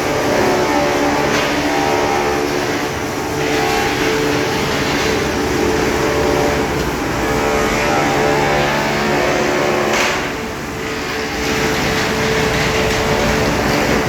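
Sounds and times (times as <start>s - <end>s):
loud machinery hum: 0.0s - 14.0s.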